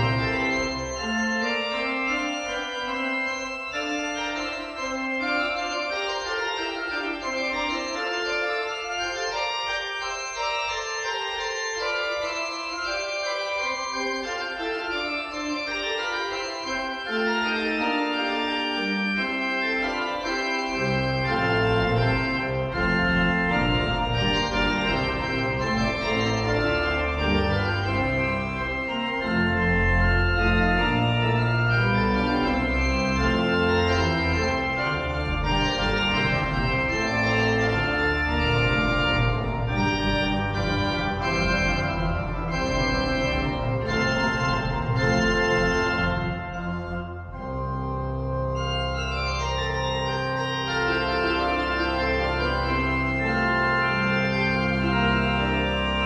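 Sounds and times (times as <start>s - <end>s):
church organ playing: 0.0s - 56.0s
deep organ pedal bass notes: 0.0s - 56.0s.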